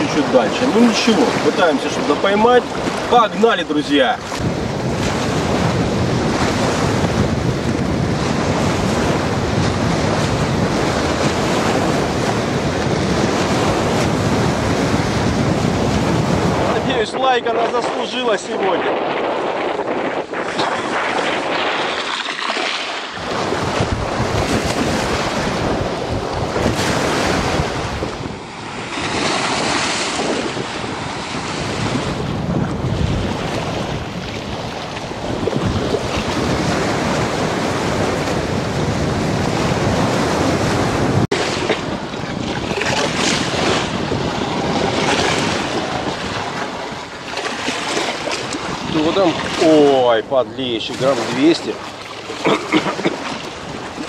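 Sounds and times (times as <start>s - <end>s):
waves washing against concrete: 0.0s - 54.0s
wind buffeting microphone: 0.0s - 54.0s.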